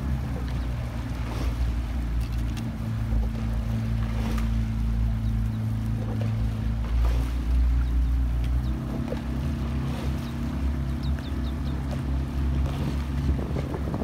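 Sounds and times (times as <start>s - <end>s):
outboard motor humming: 0.0s - 14.0s
water and wind noise: 0.0s - 14.0s.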